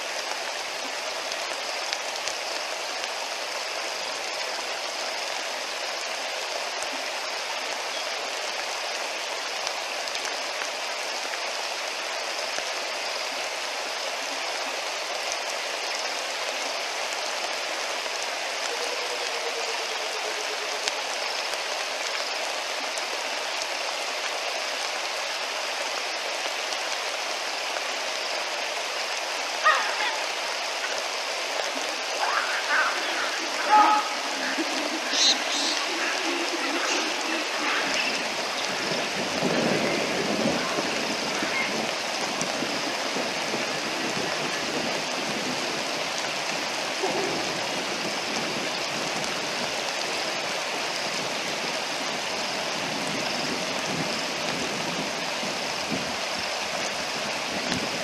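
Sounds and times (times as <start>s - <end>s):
rain falling on river water: 0.0s - 58.0s.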